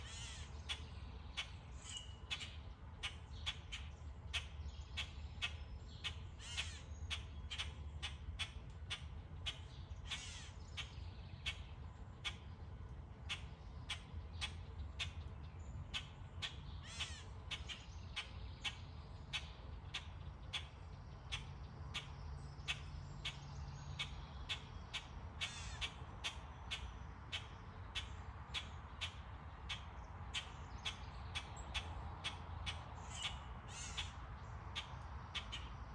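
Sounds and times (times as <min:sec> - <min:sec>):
birds calling sharply: 0:00.0 - 0:35.9
low steady rumble: 0:00.0 - 0:35.9.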